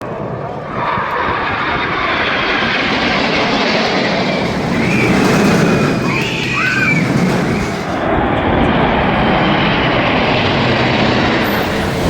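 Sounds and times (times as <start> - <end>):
airplane engine roar: 0.0 - 12.0.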